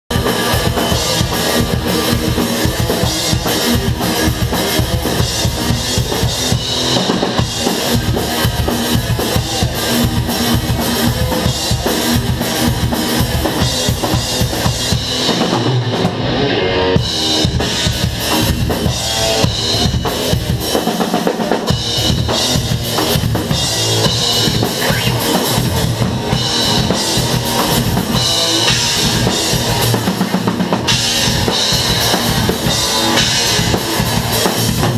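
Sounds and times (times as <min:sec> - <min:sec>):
metal band playing: 0:00.1 - 0:34.9.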